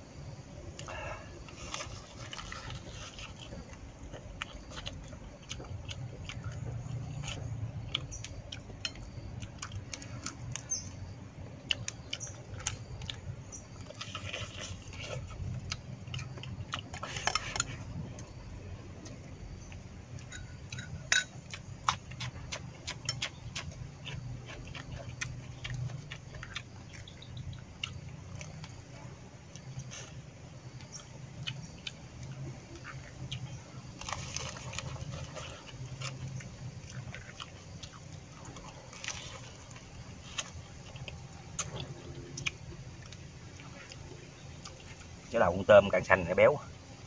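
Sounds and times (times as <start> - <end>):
close-up chewing: 0.2 - 47.0.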